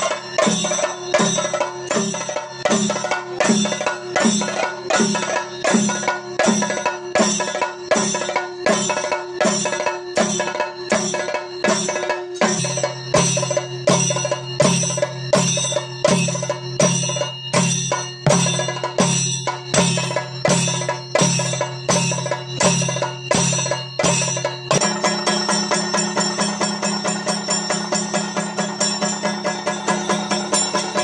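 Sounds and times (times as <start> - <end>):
heavy drum strokes: 0.0 - 31.0
metallic ringing: 0.0 - 31.0.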